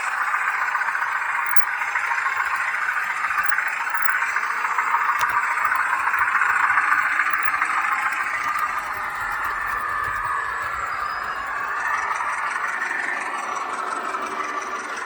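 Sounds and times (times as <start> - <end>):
model train motor whirring: 0.0 - 15.0
wheels rattling on rails: 0.0 - 15.0.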